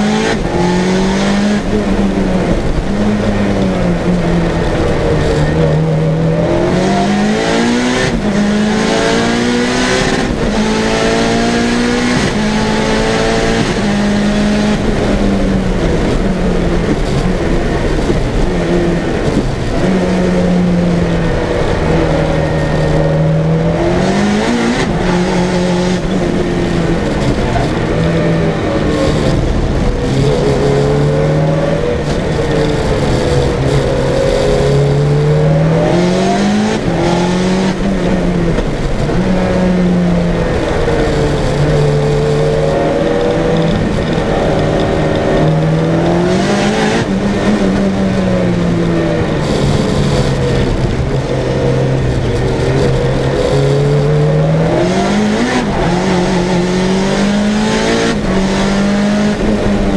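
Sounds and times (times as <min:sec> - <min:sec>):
turbocharged engine revving hard: 0:00.0 - 0:59.9.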